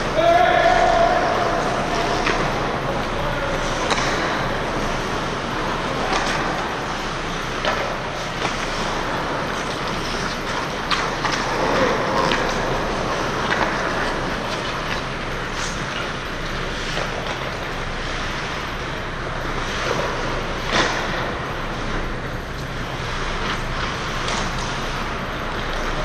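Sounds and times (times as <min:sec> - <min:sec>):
hockey sticks and puck clacking: 0:00.0 - 0:26.0
steady rushing noise: 0:00.0 - 0:26.0.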